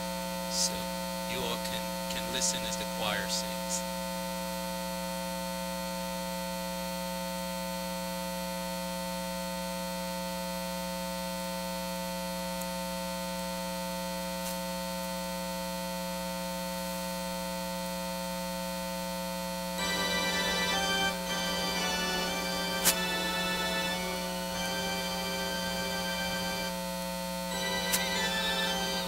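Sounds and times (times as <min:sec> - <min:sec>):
electrical mains hum: 0:00.0 - 0:06.8, 0:10.9 - 0:29.0.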